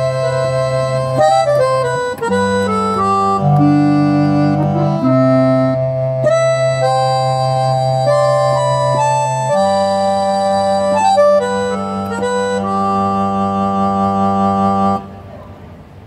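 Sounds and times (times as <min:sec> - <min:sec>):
sustained low keyboard note: 0:00.0 - 0:15.2
keyboard playing slow melody: 0:00.0 - 0:16.0.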